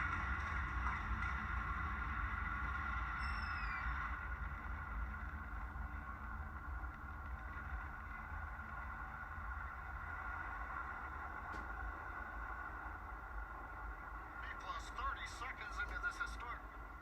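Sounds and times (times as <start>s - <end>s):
rocket engine rumble: 0.0s - 17.0s.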